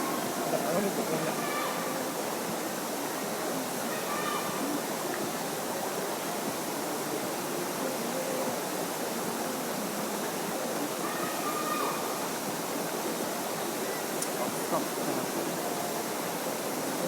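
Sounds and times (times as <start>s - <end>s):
faint distant voices: 0.0s - 17.0s
stream water flowing: 0.0s - 17.0s.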